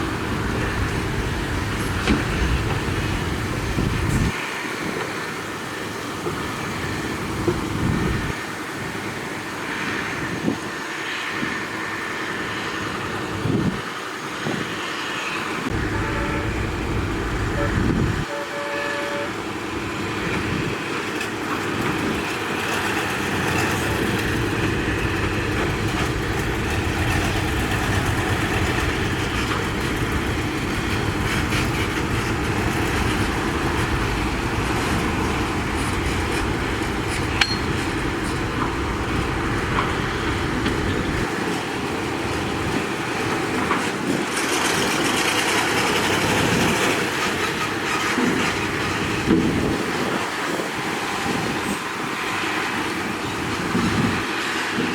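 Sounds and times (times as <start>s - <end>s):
heavy diesel engine running: 0.0s - 4.4s, 6.1s - 14.2s, 15.6s - 54.9s.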